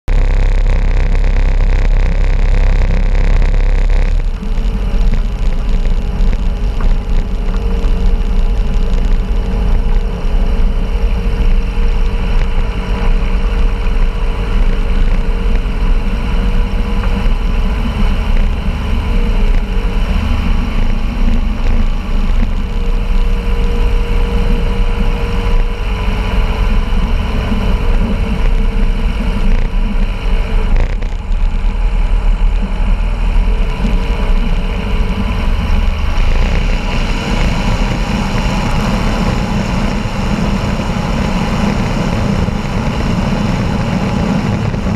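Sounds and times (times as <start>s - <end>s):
propeller aircraft engine running: 0.0s - 44.9s.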